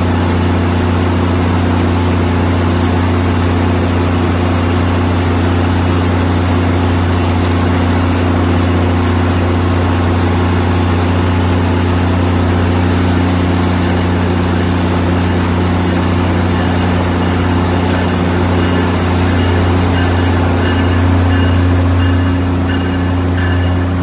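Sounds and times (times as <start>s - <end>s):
locomotive engine idling: 0.0s - 24.0s.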